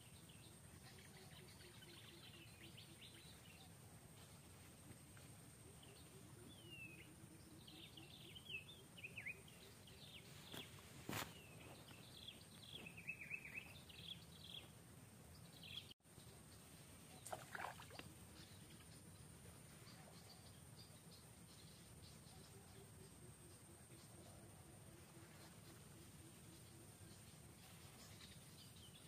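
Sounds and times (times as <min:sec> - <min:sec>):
small birds twittering: 0:00.0 - 0:29.0.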